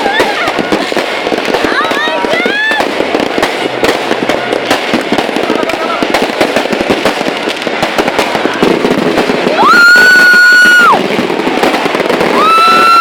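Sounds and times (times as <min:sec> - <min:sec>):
crowd noise: 0:00.0 - 0:13.0
fireworks crackling and popping: 0:00.0 - 0:13.0.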